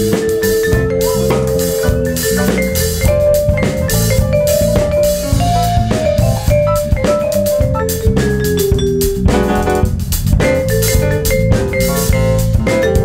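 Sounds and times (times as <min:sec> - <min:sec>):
drum kit: 0:00.0 - 0:13.0
electric bass: 0:00.0 - 0:13.0
grand piano: 0:00.0 - 0:13.0
vibraphone: 0:00.0 - 0:13.0.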